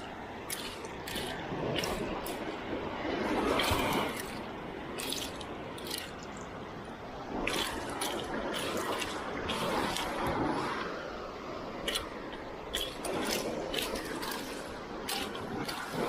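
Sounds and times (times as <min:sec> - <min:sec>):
sea water splashing: 0:00.0 - 0:16.0.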